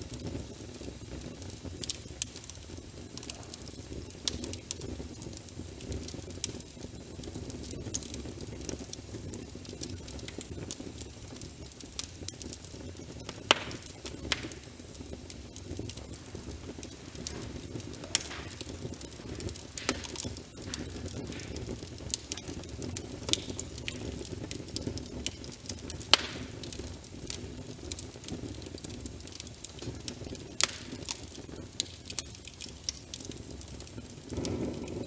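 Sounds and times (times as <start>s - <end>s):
rain pattering: 0.0s - 35.0s
wood fire crackling: 0.0s - 35.0s.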